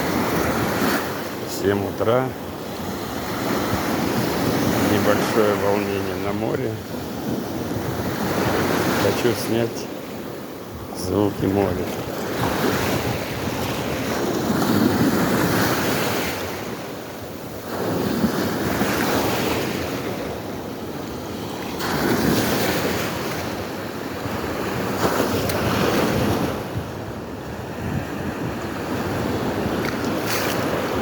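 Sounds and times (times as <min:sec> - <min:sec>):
small waves washing onto beach: 0:00.0 - 0:31.0.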